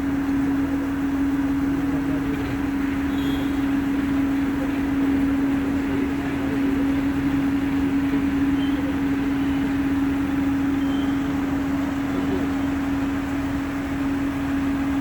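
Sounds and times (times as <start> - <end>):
construction machinery running: 0.0 - 15.0.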